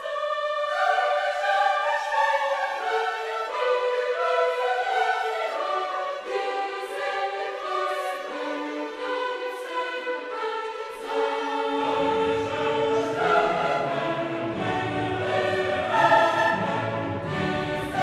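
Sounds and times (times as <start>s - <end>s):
choir with orchestra: 0.0s - 18.0s.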